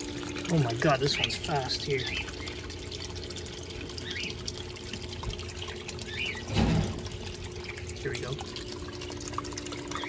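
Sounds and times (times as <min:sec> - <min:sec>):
water pouring from drain: 0:00.0 - 0:10.0
water trickling through gravel: 0:00.0 - 0:10.0.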